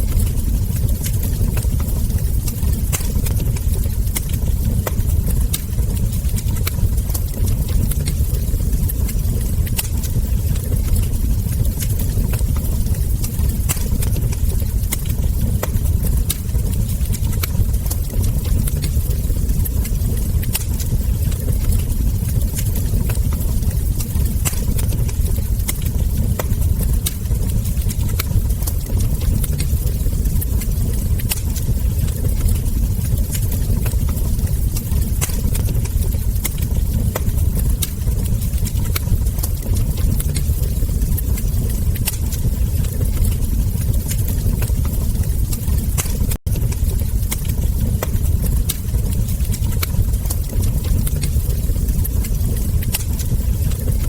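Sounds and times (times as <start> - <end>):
fire crackles and ember pops: 0.0 - 54.0
wood fire rumbling: 0.0 - 54.0.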